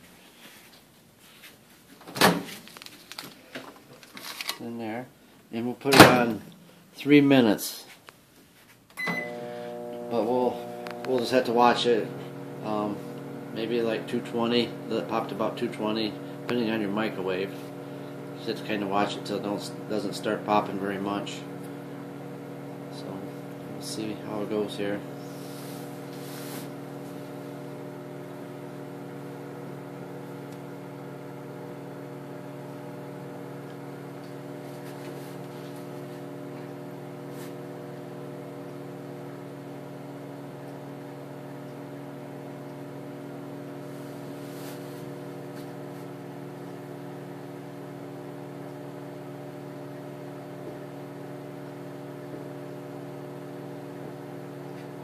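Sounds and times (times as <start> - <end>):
microwave oven humming: 9.0 - 55.0.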